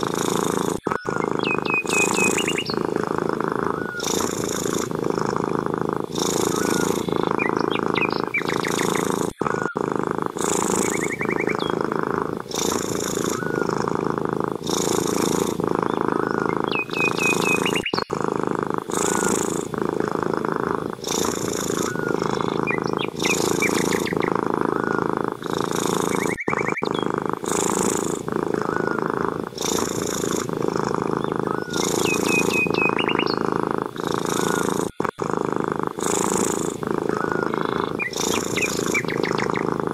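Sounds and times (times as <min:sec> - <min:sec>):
cat purring: 0:00.0 - 0:39.9
small birds chirping: 0:00.0 - 0:39.9.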